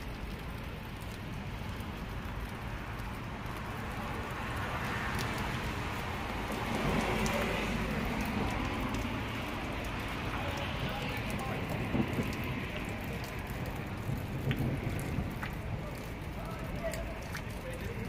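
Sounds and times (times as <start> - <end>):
steady rain falling: 0.0 - 18.0
drops ticking close by: 0.1 - 18.0.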